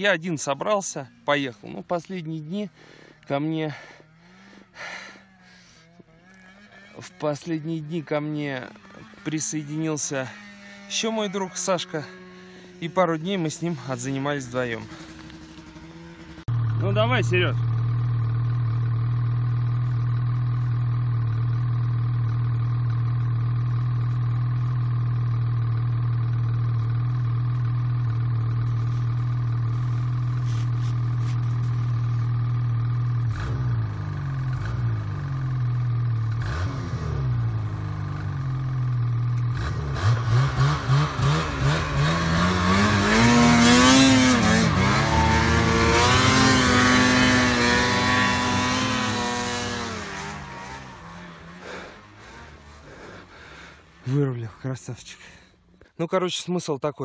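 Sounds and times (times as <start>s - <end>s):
snowmobile engine revving: 0.0s - 18.8s, 27.9s - 55.5s.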